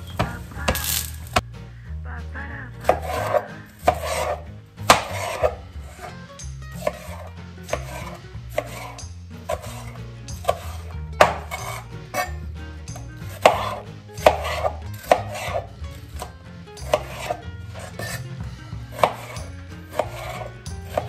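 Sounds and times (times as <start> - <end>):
knife chopping on plastic board: 2.8 - 21.0.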